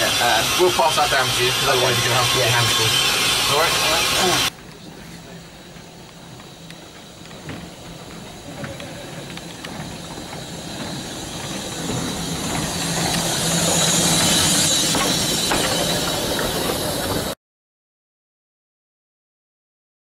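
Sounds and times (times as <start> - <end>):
steam hissing: 0.0 - 17.4
steam locomotive passing: 0.0 - 17.4.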